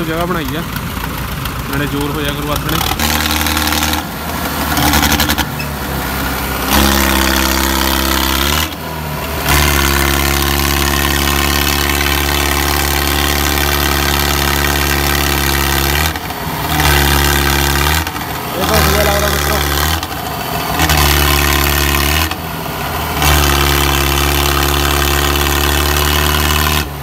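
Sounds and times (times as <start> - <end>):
tractor engine at high revs: 0.0 - 27.0.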